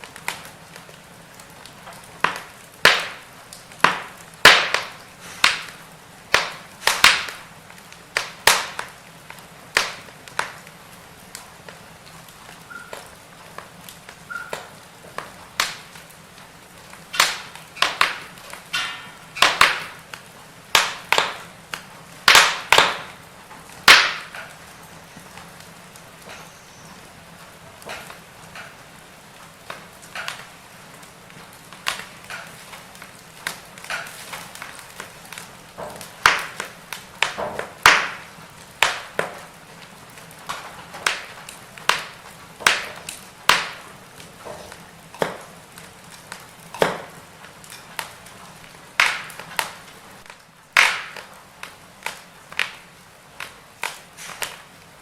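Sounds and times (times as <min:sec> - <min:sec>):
firewood crackling and popping: 0:00.0 - 0:55.0.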